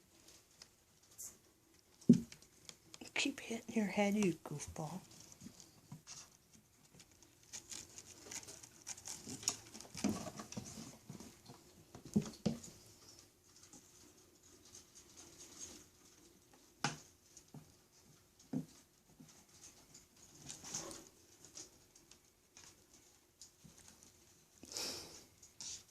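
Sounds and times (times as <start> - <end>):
pets scrambling and scratching: 1.9 - 24.5.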